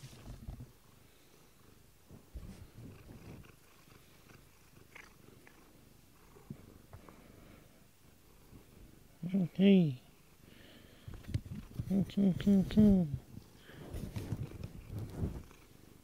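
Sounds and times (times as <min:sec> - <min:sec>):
cat purring: 0:00.0 - 0:07.0, 0:09.5 - 0:16.0.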